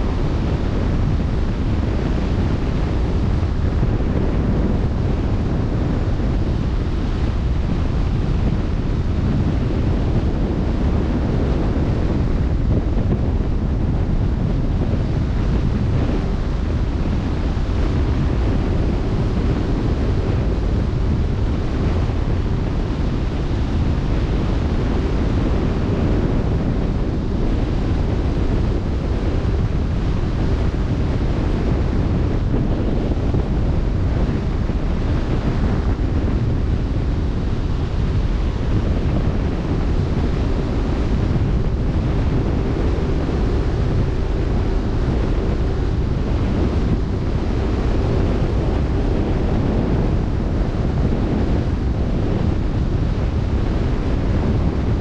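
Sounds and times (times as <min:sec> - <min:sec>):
faint steady hum: 0:00.0 - 0:55.0
wind buffeting microphone: 0:00.0 - 0:55.0.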